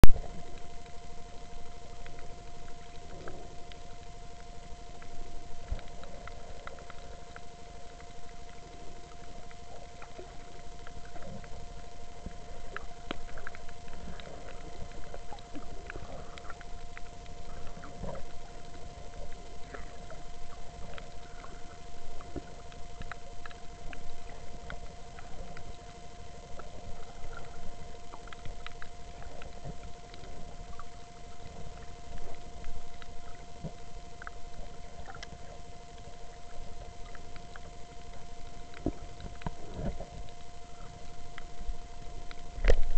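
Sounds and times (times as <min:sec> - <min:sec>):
reef clicks crackling: 0:00.0 - 0:42.9
underwater hum and rumble: 0:00.0 - 0:42.9.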